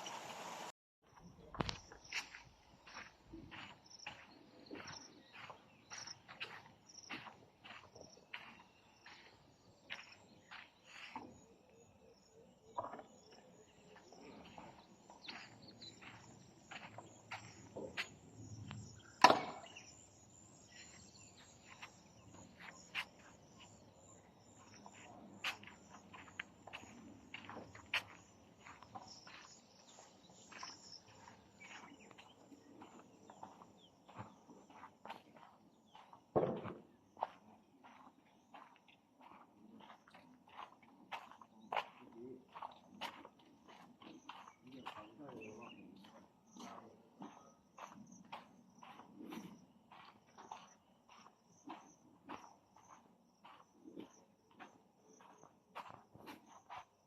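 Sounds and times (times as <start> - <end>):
crickets chirping: 0.0 - 57.0
faint footsteps: 1.1 - 11.5, 12.7 - 57.0.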